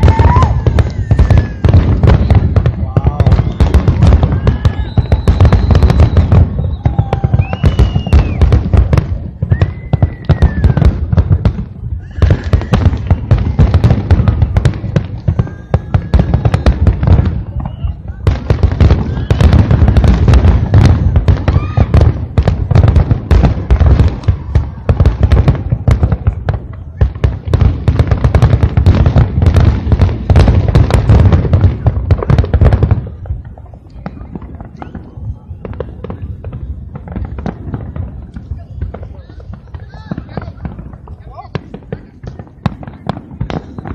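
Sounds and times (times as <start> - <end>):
fireworks bangs and crackles: 0.0 - 43.9
high whistling fireworks: 0.0 - 43.9.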